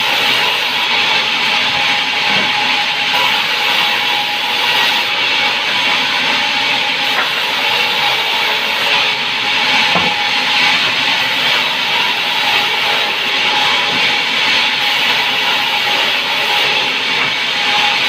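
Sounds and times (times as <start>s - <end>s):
power saw cutting wood: 0.0s - 18.0s.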